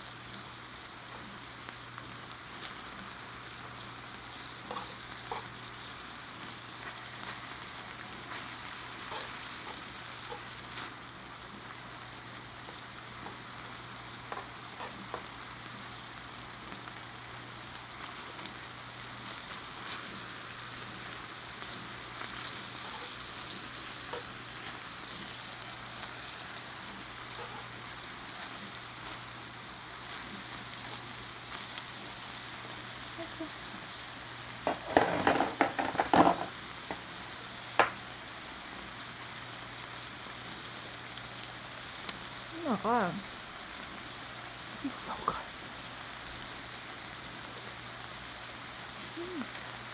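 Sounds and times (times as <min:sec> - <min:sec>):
beef sizzling in a frying pan: 0:00.0 - 0:49.9.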